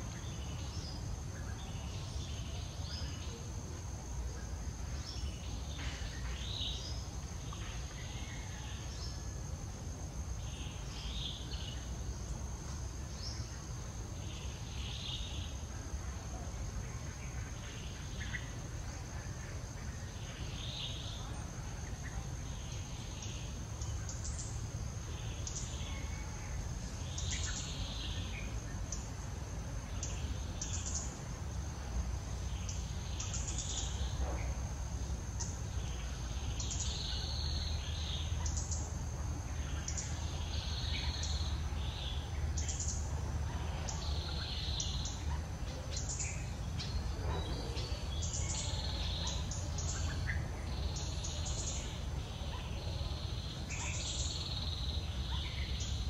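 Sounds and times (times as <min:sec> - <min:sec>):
high insect whine: 0:00.0 - 0:56.0.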